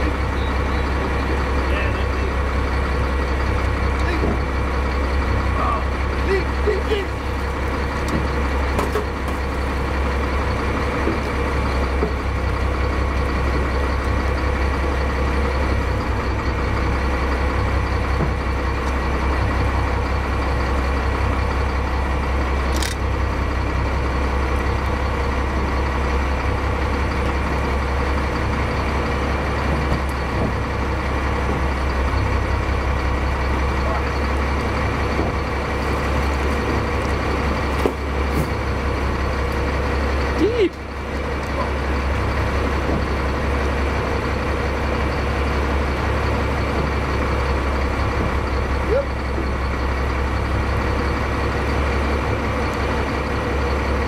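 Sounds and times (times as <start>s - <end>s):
boat engine rumbling: 0.0s - 54.0s.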